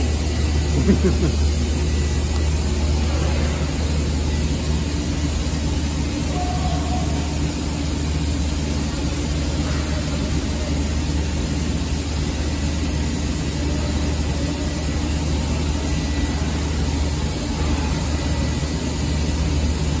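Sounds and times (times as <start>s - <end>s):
laser cutter machine hum: 0.0s - 20.0s.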